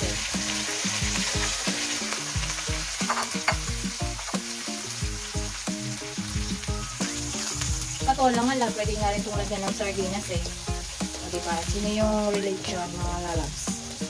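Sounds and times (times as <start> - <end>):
background music with steady beat: 0.0 - 14.0
vegetables sizzling in oil: 0.0 - 14.0.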